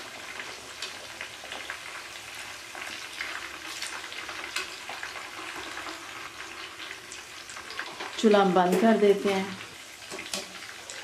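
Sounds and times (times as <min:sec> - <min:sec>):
deep-frying sizzle with pops: 0:00.0 - 0:11.0.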